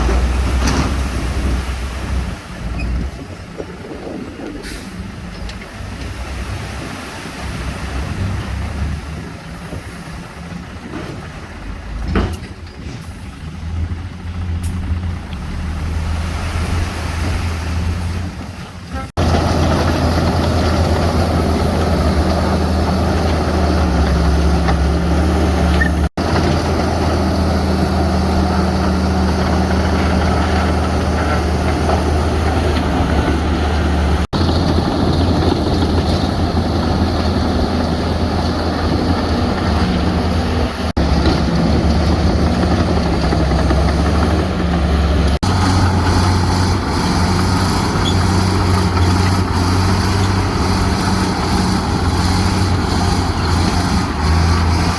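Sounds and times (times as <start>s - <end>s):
heavy diesel engines running: 0.0s - 54.9s.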